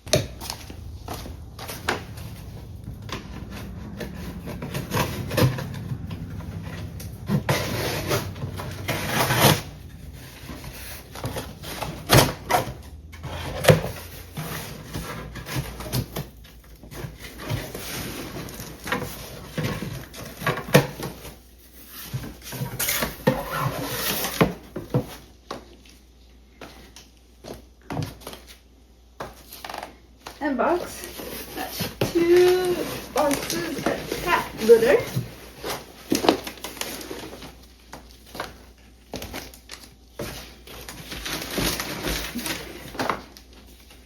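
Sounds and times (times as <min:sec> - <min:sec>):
items unpacked from cardboard box: 0:00.0 - 0:26.0, 0:30.7 - 0:44.0.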